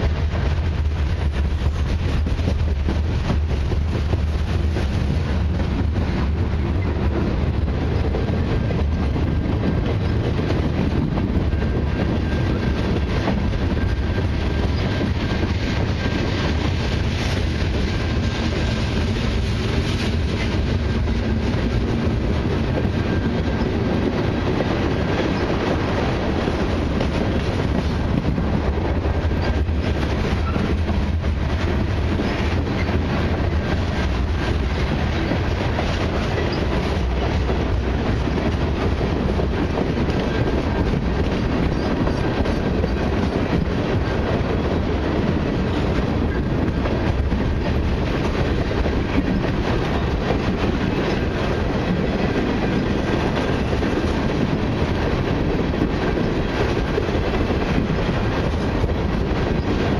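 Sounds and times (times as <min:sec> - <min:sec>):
steel wheels rumbling on rails: 0:00.0 - 0:59.9
wheels clickety-clack: 0:00.0 - 0:59.9.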